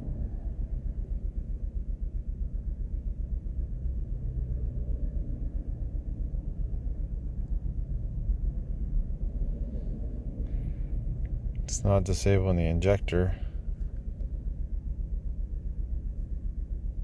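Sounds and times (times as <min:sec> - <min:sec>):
car engine idling unevenly: 0:00.0 - 0:17.0.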